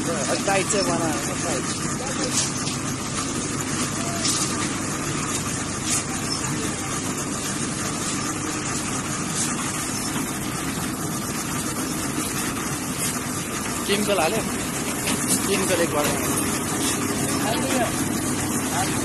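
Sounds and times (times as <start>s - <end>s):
concrete mixer engine running: 0.0s - 19.0s.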